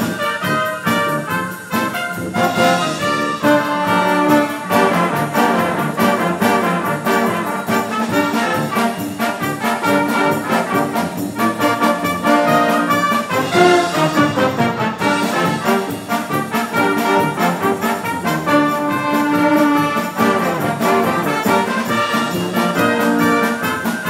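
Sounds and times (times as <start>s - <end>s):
brass band playing a hymn: 0.0s - 24.0s.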